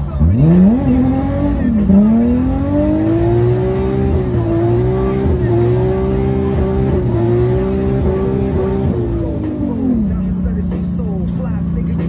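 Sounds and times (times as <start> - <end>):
turbo engine accelerating hard: 0.0 - 12.0.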